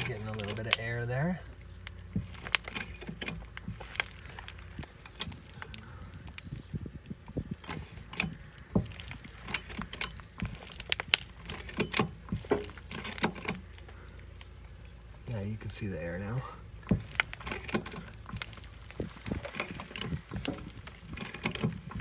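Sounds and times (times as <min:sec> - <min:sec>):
jack clicking and knocking: 0:00.0 - 0:14.1, 0:16.7 - 0:22.0.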